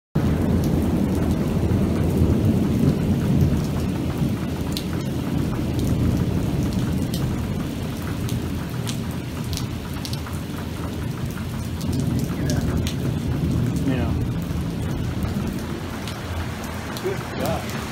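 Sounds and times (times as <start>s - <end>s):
deep rumble: 0.2s - 17.9s
heavy rain on flooded asphalt: 0.2s - 17.9s
sharp drips: 0.2s - 17.9s.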